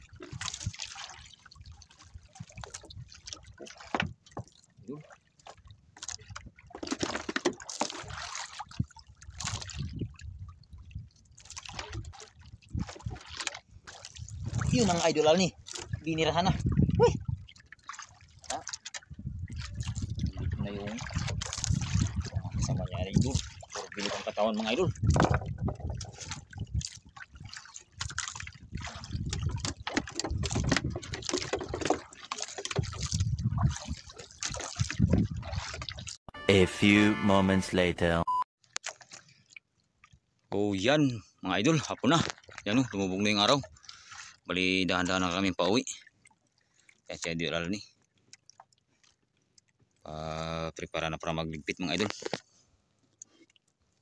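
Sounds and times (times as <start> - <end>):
water sloshing around a boat: 0.0 - 36.3, 38.6 - 54.0.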